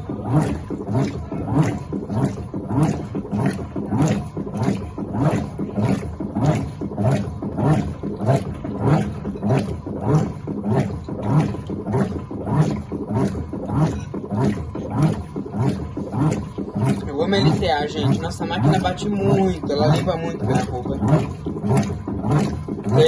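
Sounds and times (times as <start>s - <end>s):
washing machine agitator swishing water: 0.0s - 23.0s.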